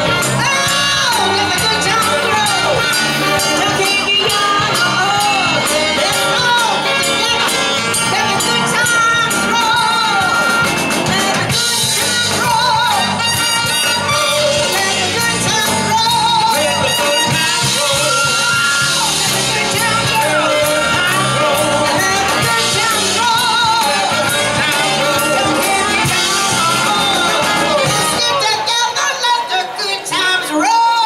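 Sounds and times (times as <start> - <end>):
drums: 0.0 - 31.0
live band playing rhythm and blues: 0.0 - 31.0
trumpet: 0.0 - 31.0
woman singing: 0.0 - 31.0.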